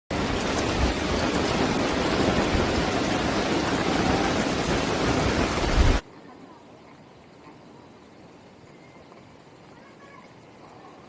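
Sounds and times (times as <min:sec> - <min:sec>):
water rushing: 0:00.1 - 0:11.0.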